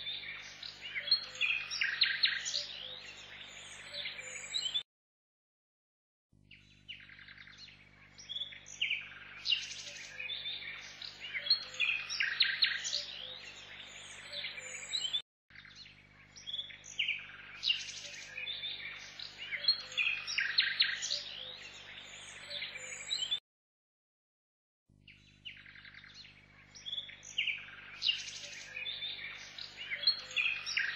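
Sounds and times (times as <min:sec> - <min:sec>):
small birds chirping and trilling: 0:00.0 - 0:04.8, 0:06.4 - 0:23.4, 0:25.0 - 0:30.9.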